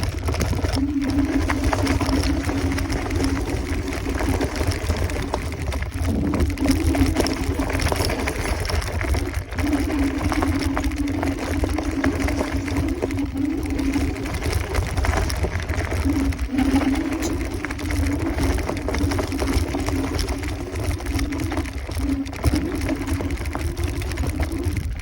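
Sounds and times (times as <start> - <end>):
electric scooter motors whining: 0.0 - 25.0
wind rumble on microphone: 0.0 - 25.0.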